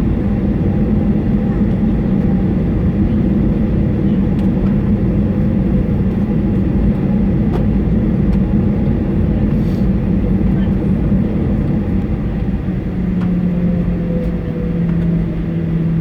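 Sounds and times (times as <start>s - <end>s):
airplane cabin rumble: 0.0s - 16.0s
constant hum: 0.0s - 16.0s.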